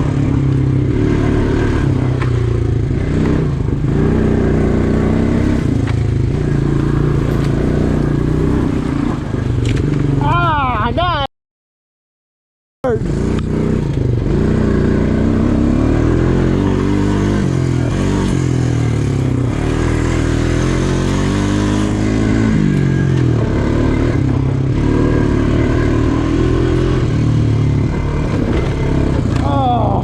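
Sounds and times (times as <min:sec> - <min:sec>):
atv engine revving: 0:00.0 - 0:11.2, 0:12.9 - 0:30.0.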